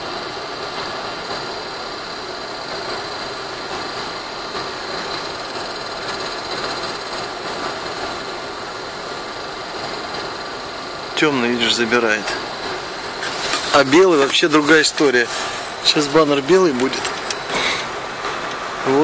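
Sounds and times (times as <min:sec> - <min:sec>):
cooling fan whirring: 0:00.0 - 0:19.0.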